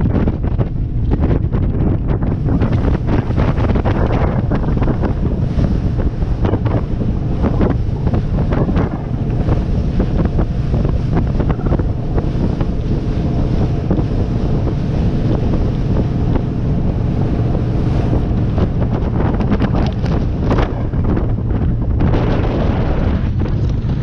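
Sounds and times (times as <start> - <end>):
motorboat engine drone: 0.0 - 24.0
water rushing past hull: 0.0 - 24.0
wind buffeting microphone: 0.0 - 24.0.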